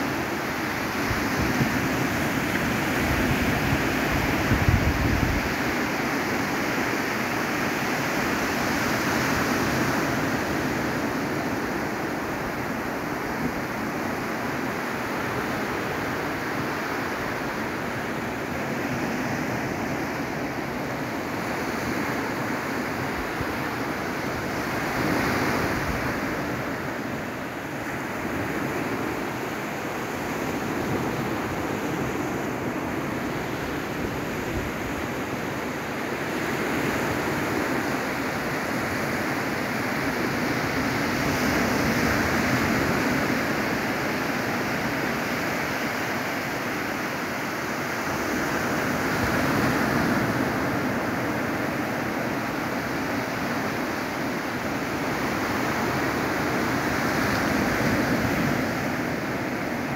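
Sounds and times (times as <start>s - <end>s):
waves washing up a beach: 0.0s - 59.9s.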